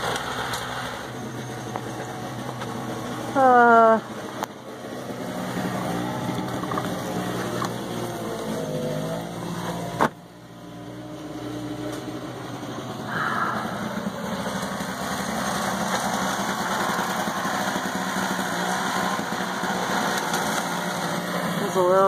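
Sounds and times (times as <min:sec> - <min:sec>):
snowblower engine running: 0:00.0 - 0:22.0.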